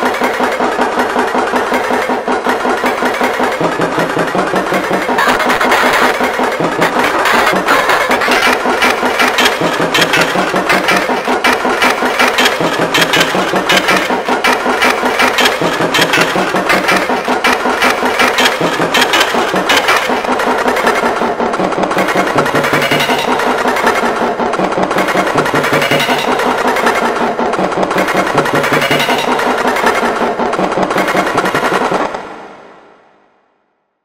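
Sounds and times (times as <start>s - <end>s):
buzzing engine-like sample repeated: 0.0s - 32.8s.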